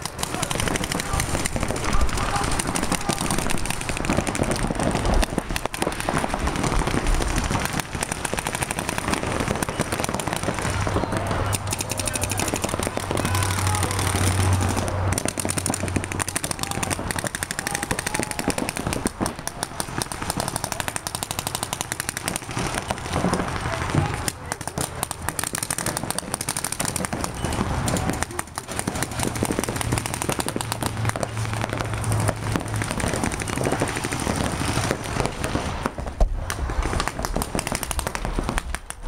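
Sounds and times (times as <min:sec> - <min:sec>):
paintball markers firing: 0:00.0 - 0:39.0.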